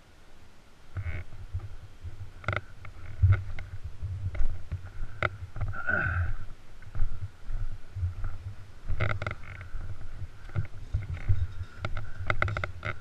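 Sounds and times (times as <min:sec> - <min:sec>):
microphone handling rumble: 0:00.9 - 0:13.0.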